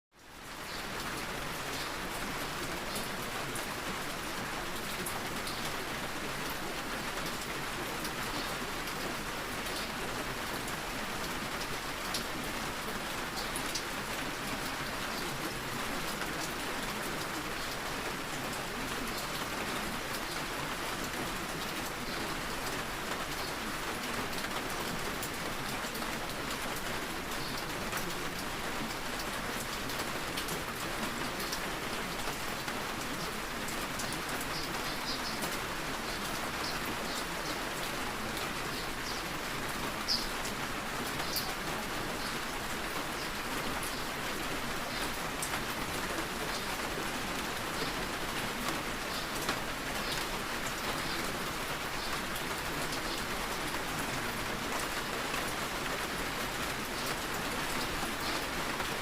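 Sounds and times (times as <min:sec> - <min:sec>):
steady rain: 0:00.1 - 0:59.0.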